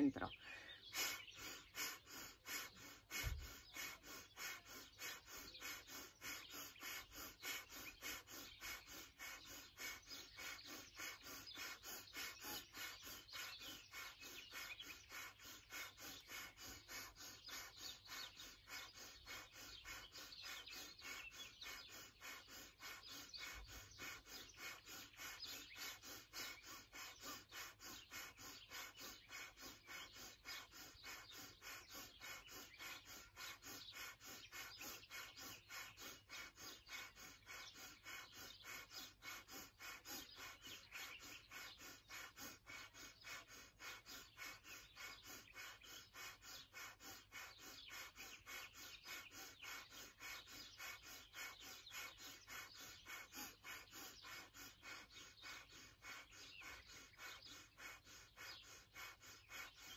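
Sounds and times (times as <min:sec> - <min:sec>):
quick forceful nose breaths: 0:00.3 - 0:59.9.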